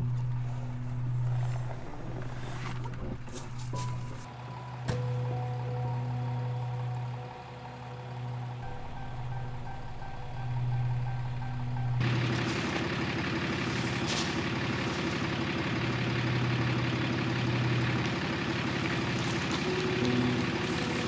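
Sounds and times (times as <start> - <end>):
pickup truck engine idling: 0.0 - 21.0.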